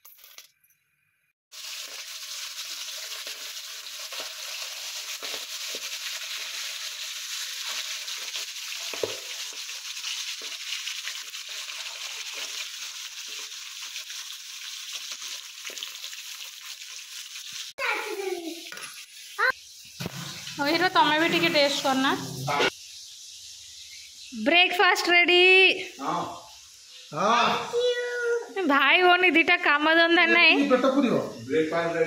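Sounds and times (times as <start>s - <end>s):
fish sizzling in a pan: 1.5s - 30.8s.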